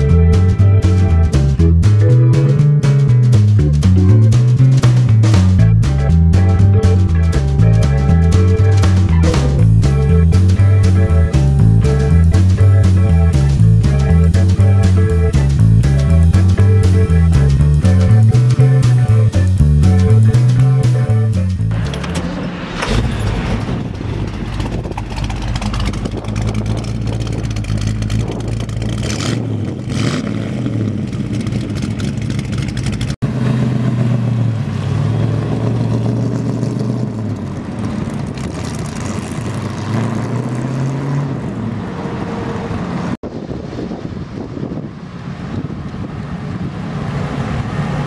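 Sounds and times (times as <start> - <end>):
car engine starting and revving: 0.0 - 44.2.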